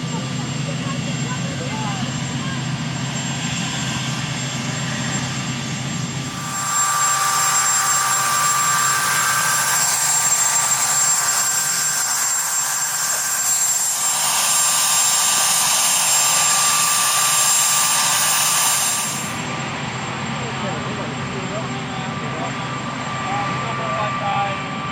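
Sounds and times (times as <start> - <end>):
helicopter turbine engines running: 0.0 - 24.9.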